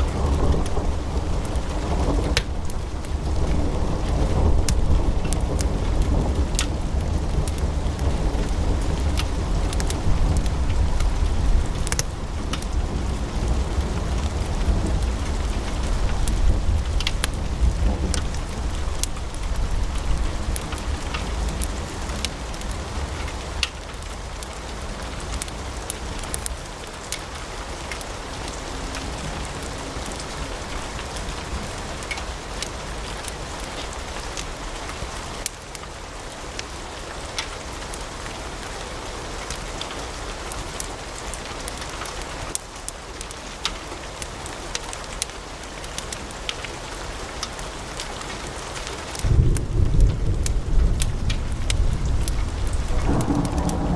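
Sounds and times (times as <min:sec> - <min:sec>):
wood fire crackling and popping: 0:00.0 - 0:38.8, 0:39.4 - 0:53.9.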